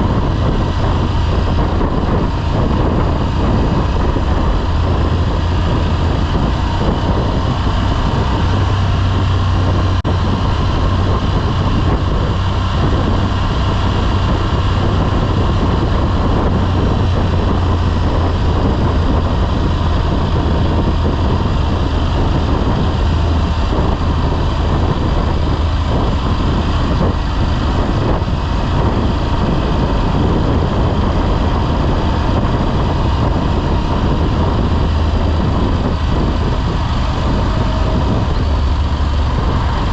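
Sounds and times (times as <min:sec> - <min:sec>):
motorcycle engine drone: 0:00.0 - 0:39.9
road noise: 0:00.0 - 0:39.9.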